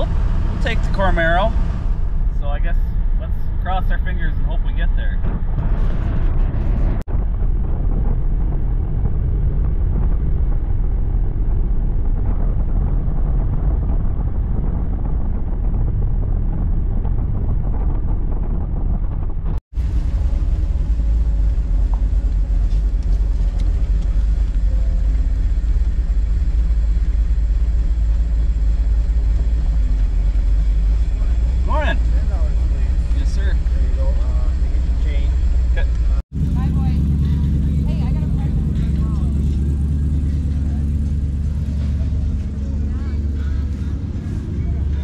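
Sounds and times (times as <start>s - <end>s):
car engine rumble: 0.0s - 45.0s
road and wind noise: 0.0s - 45.0s.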